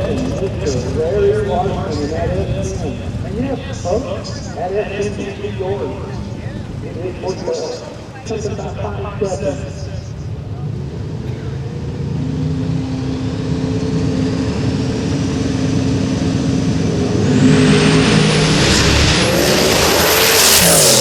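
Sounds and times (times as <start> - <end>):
truck engine with turbo whine: 0.0 - 21.0.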